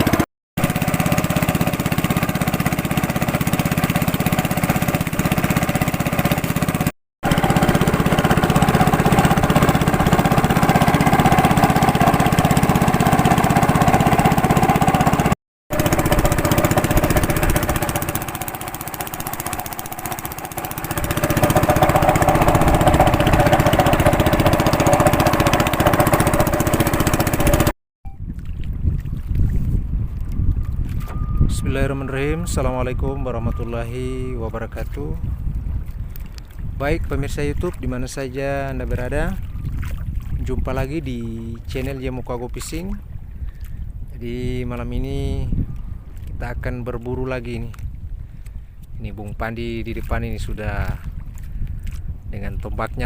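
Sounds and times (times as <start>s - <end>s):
boat motor droning: 0.0s - 27.8s, 29.7s - 48.4s.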